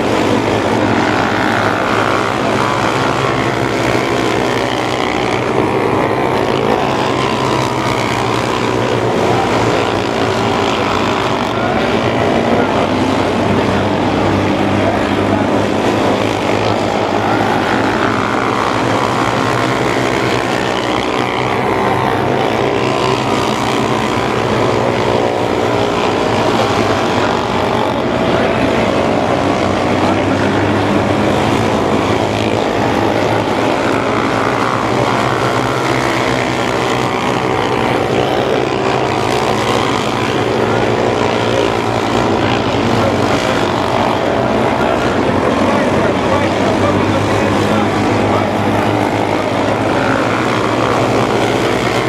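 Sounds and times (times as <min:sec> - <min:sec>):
race car engines accelerating: 0:00.0 - 0:52.0.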